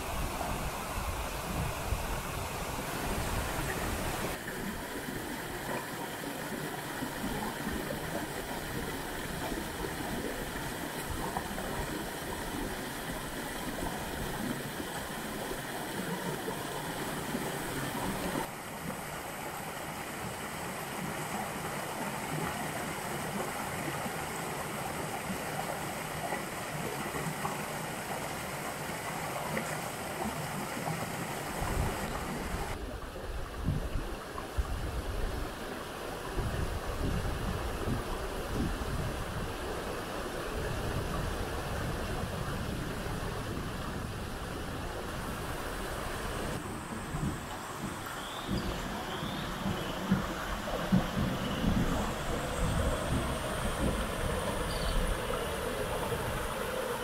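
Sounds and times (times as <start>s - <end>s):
stream and waterfall rushing: 0.0s - 57.0s.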